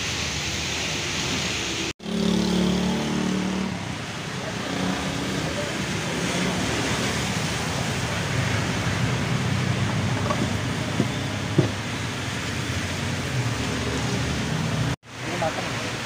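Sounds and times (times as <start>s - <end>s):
rushing noise with low hum: 0.0s - 16.0s.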